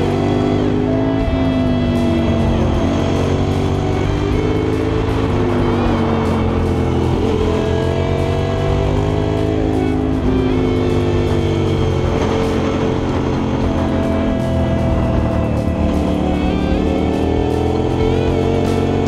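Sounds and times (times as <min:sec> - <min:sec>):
motorcycle engine revving: 0:00.0 - 0:19.0
rock music: 0:00.0 - 0:19.0.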